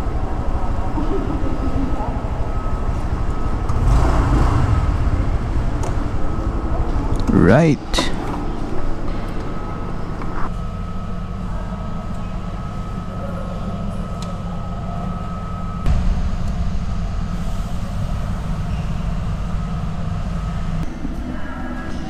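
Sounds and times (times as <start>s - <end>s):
low rumble of parking garage: 0.0s - 22.0s.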